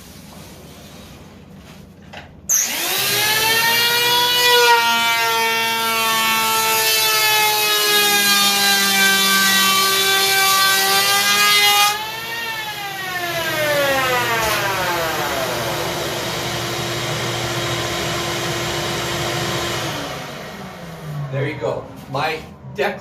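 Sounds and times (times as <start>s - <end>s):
electric planer whine: 2.5s - 22.7s.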